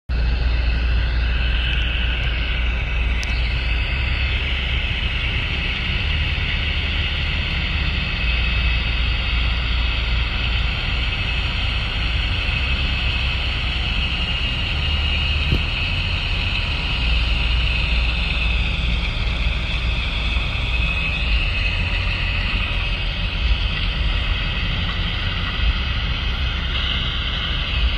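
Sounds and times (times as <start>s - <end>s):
distant tractor rumbling: 0.1s - 27.9s
steady high hiss: 0.1s - 27.9s.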